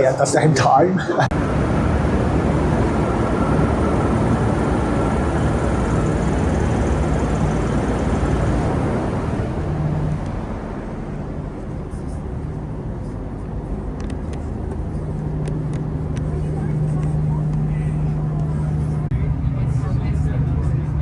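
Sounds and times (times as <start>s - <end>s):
passenger train rumbling: 0.0s - 21.0s.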